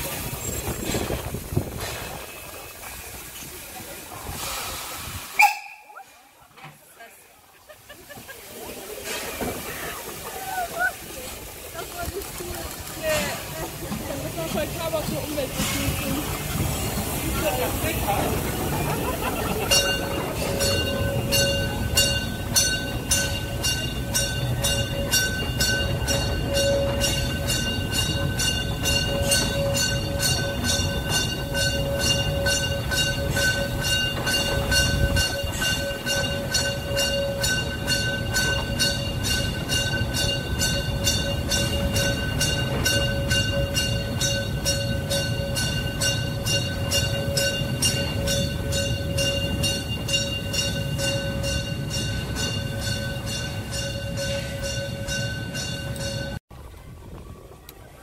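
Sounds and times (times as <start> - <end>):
steam locomotive chuffing: 0.0 - 56.4.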